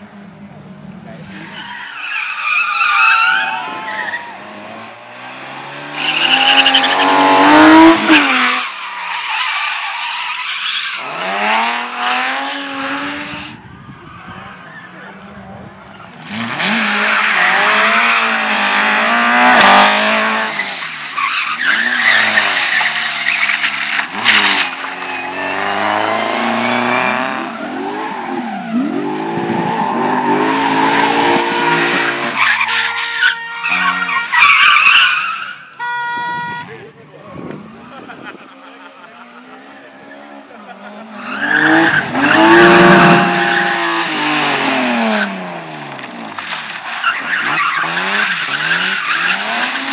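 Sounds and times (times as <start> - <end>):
rally car engines revving: 0.0 - 49.9
tyres squealing and skidding: 1.1 - 49.9.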